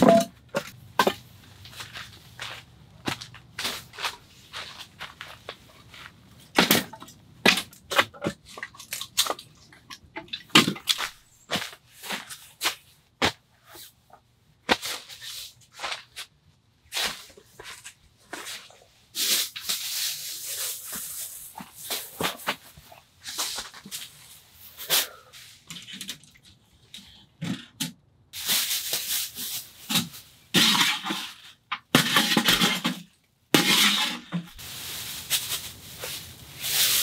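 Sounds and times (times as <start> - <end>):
rustling and crunching: 0.0 - 14.0, 14.6 - 26.5, 28.4 - 37.0.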